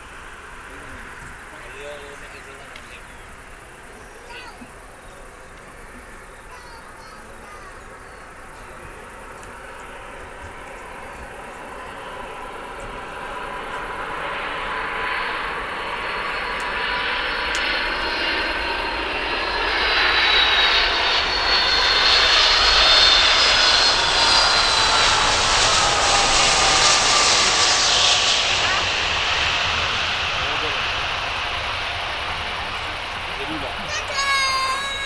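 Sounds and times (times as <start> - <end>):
jet airliner engines whining: 0.0 - 35.0.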